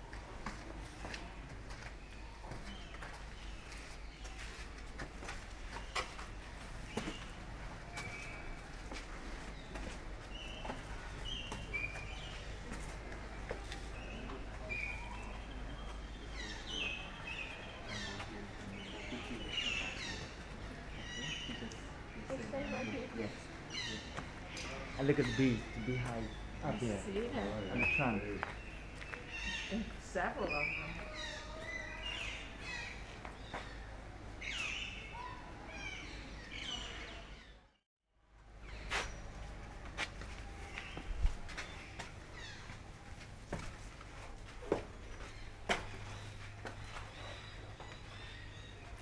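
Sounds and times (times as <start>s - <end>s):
low background noise: 0.0s - 49.0s
birds chirping: 1.3s - 37.8s, 38.6s - 49.0s.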